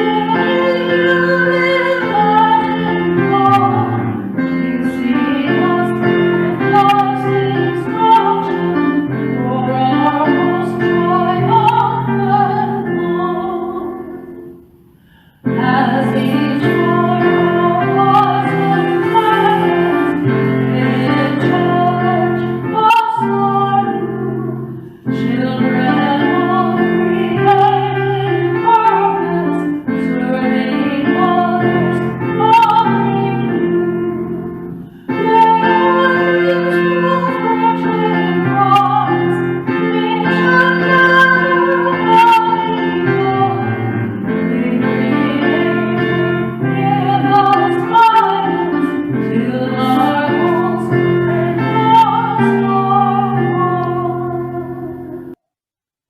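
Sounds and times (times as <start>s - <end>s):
person singing a hymn: 0.0s - 14.3s, 15.5s - 55.1s
piano accompaniment: 0.0s - 55.4s.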